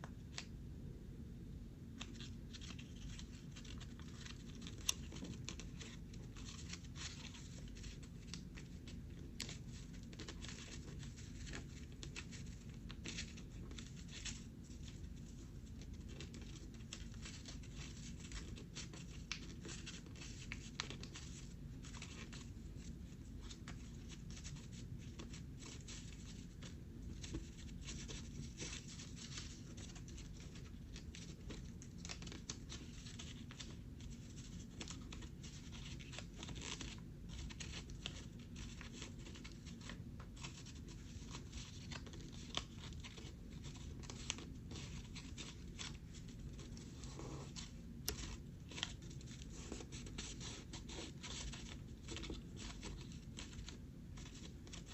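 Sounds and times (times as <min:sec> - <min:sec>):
low background hum: 0:00.0 - 0:54.9
paper rustling and crackling: 0:02.0 - 0:54.9.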